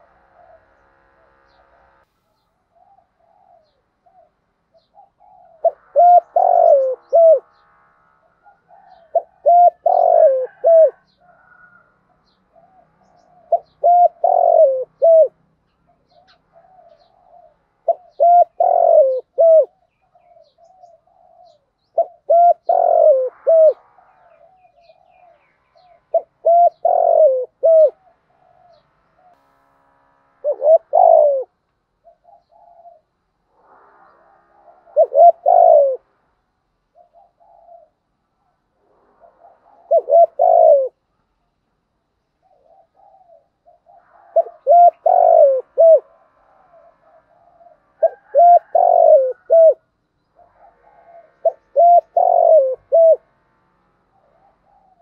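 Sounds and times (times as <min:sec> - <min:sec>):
dove cooing: 0:00.0 - 0:01.8, 0:02.7 - 0:07.6, 0:08.2 - 0:29.4, 0:30.4 - 0:41.5, 0:42.4 - 0:53.4, 0:54.0 - 0:55.0.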